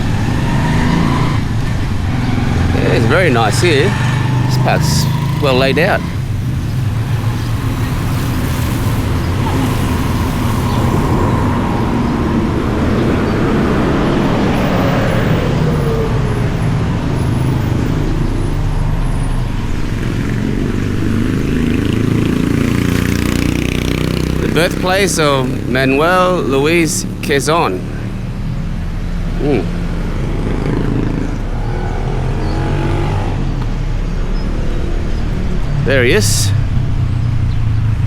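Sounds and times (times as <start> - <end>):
vehicle engine running: 0.0 - 38.0
vehicle passing by: 0.0 - 38.0.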